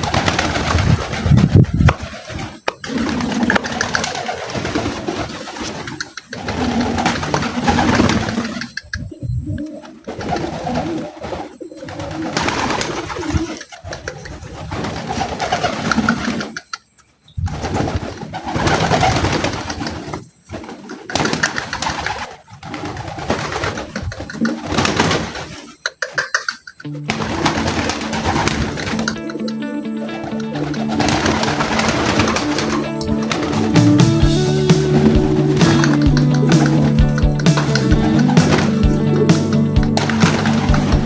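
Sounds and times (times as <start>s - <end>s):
pigeons cooing: 0.0s - 16.8s, 17.4s - 41.0s.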